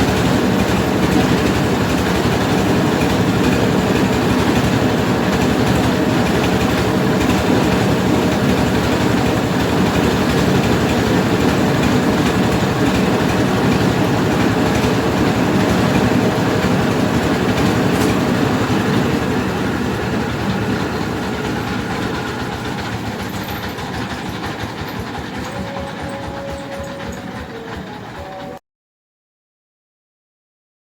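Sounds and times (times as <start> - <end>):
rice-milling machine clattering: 0.0 - 28.6.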